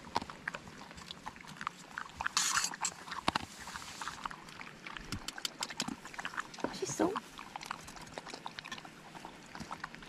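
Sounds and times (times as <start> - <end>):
dog crunching kibble: 0.0 - 10.0.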